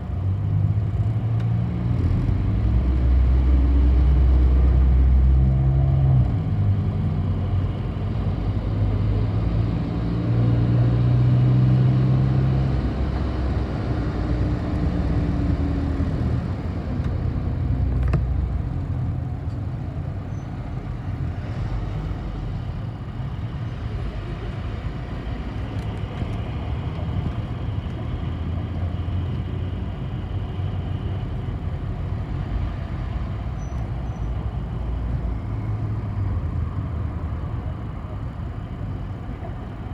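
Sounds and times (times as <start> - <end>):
bus engine hum: 0.0 - 39.9
road and cabin noise: 0.0 - 39.9.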